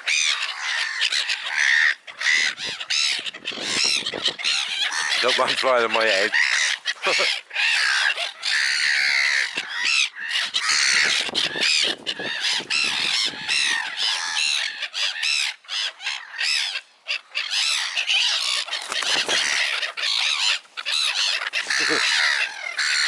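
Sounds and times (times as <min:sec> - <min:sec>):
flock of birds calling: 0:00.0 - 0:23.0.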